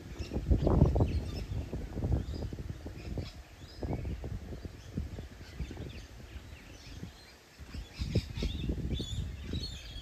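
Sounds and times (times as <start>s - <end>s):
small birds chirping: 0.0s - 10.0s
wind buffeting microphone: 0.0s - 10.0s.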